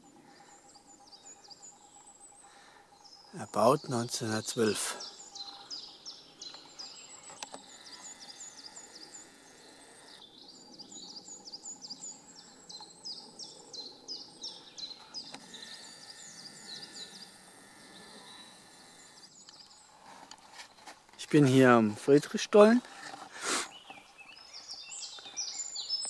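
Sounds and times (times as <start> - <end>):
small songbirds chirping: 0.0 - 26.0.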